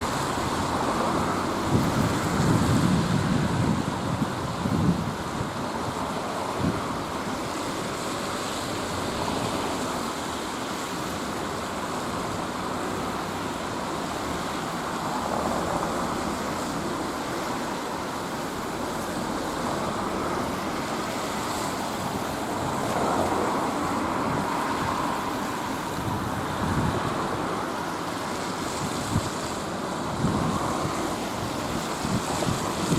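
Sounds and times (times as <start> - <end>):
strong wind buffeting microphone: 0.0 - 10.4, 11.3 - 32.9.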